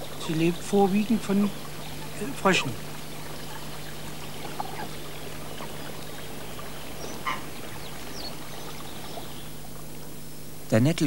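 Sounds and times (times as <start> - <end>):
low steady hum: 0.0 - 11.0
water trickling: 0.0 - 11.0.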